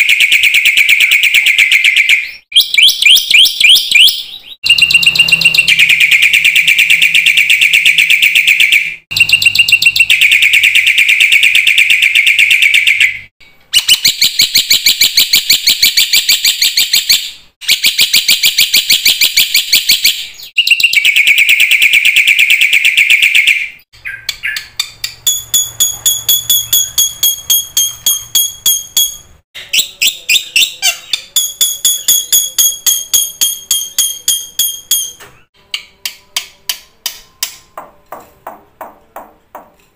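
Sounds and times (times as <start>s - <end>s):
bird harsh chattering song: 0.2s - 35.5s.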